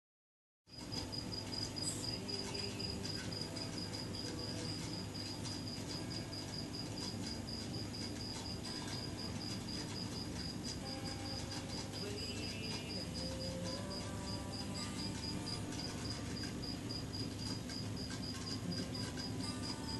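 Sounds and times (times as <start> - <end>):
cricket chirping: 0.7 - 19.9
low steady hum: 0.7 - 19.9.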